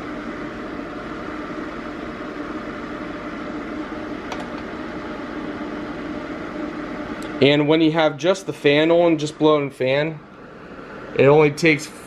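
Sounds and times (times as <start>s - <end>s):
space heater fan humming: 0.0s - 12.0s.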